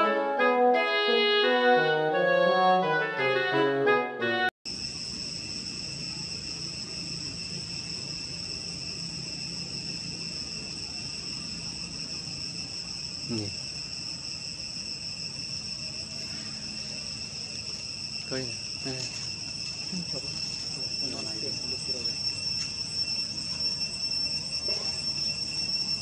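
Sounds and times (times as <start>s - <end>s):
insects droning: 4.7s - 26.0s.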